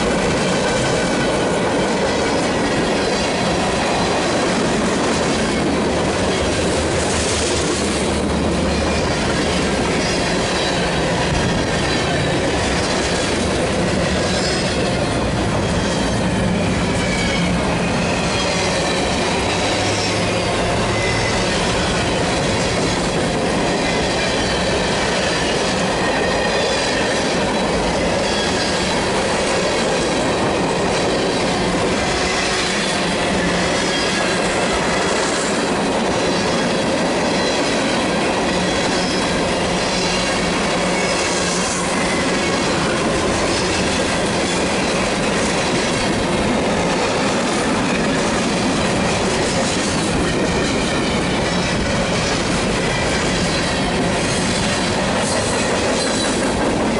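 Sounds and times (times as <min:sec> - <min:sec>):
train wheels rolling on rails: 0:00.0 - 0:56.9.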